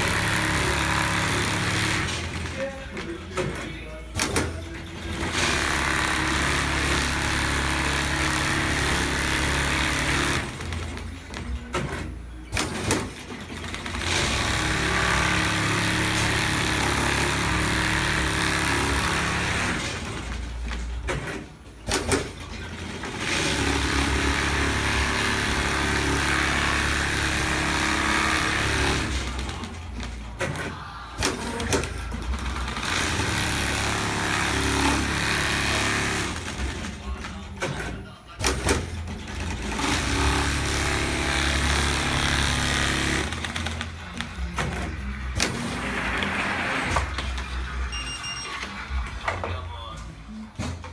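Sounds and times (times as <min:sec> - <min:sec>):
sewing machine running: 0:00.0 - 0:03.6, 0:04.2 - 0:49.1.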